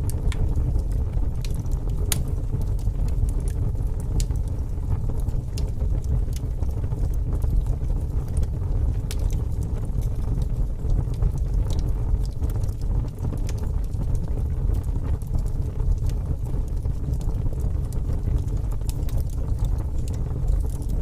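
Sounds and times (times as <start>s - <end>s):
fire crackling pops: 0.0s - 21.0s
low rumble of flames: 0.0s - 21.0s.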